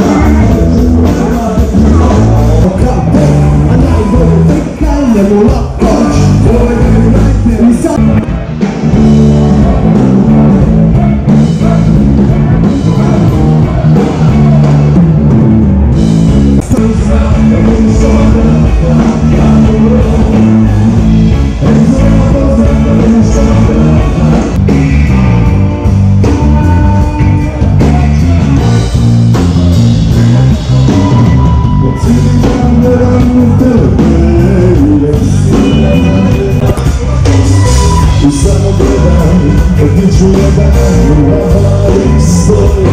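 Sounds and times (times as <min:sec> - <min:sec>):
person singing: 0:00.0 - 0:15.0, 0:16.6 - 0:29.1, 0:30.1 - 0:42.9
drum kit: 0:00.0 - 0:42.9
keyboards: 0:00.0 - 0:42.9
live rock band: 0:00.0 - 0:42.9.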